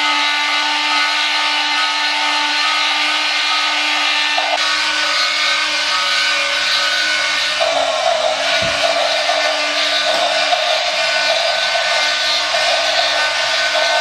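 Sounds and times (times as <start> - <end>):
steam hiss: 0.0 - 14.0
toy locomotive mechanical whir: 0.0 - 14.0.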